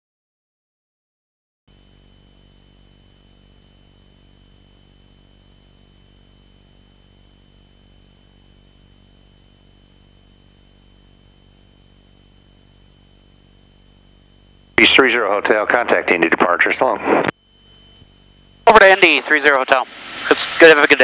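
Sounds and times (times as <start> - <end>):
high-pitched whine: 1.7 - 21.0
intercom static hiss and hum: 3.4 - 21.0.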